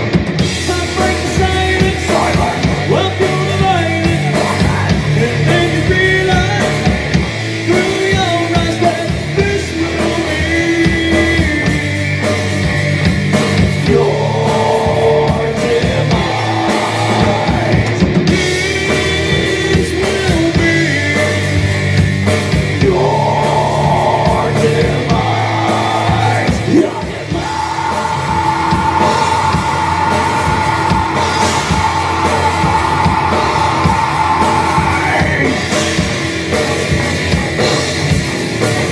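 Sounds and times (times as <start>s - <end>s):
bass guitar: 0.0s - 38.9s
drum kit: 0.0s - 38.9s
electric guitar: 0.0s - 38.9s
person singing: 0.5s - 7.0s, 7.6s - 12.6s, 13.8s - 38.0s.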